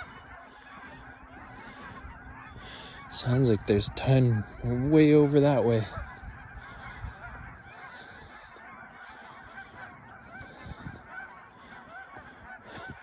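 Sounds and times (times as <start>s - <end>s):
flock of geese honking: 0.0s - 13.0s.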